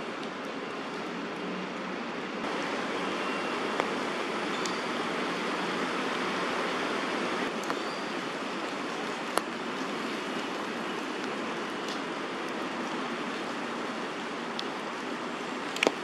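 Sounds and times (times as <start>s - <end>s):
rain falling through foliage: 0.0s - 16.0s.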